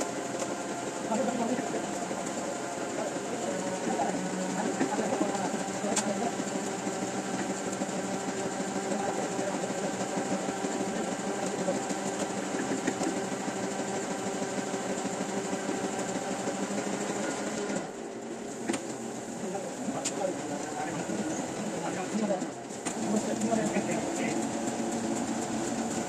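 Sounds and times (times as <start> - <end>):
printing press mechanical hum: 0.0 - 26.0.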